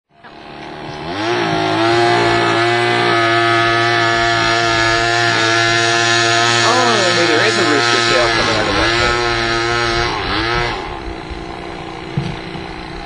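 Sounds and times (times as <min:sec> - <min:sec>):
two-stroke engine at high revs: 0:00.1 - 0:13.0.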